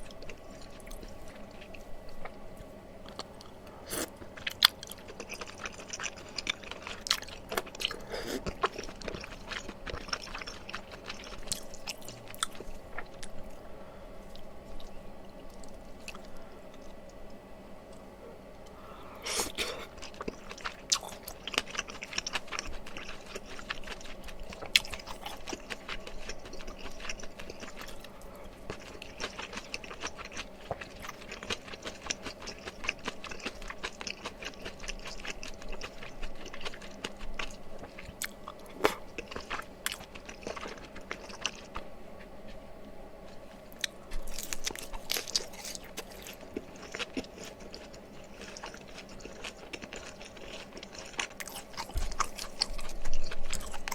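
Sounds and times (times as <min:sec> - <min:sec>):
close chewing with wet mouth sounds: 0:00.0 - 0:13.6, 0:19.2 - 0:53.9.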